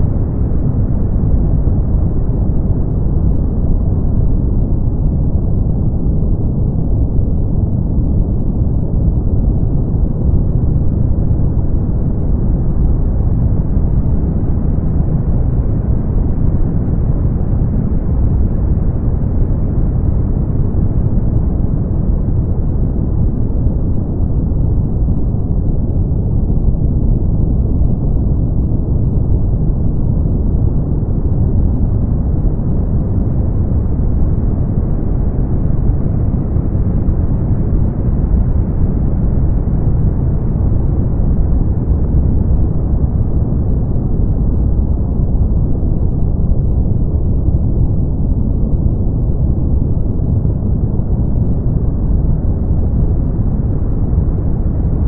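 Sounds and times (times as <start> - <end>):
deep rumbling brown noise: 0.0 - 55.0.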